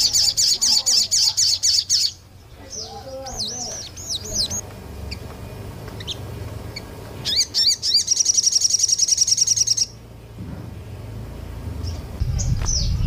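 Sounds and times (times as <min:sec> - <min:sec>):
small songbird singing: 0:00.0 - 0:13.0.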